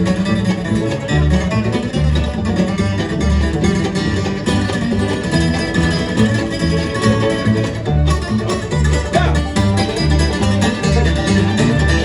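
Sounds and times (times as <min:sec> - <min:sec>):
bluegrass band playing: 0:00.0 - 0:12.0.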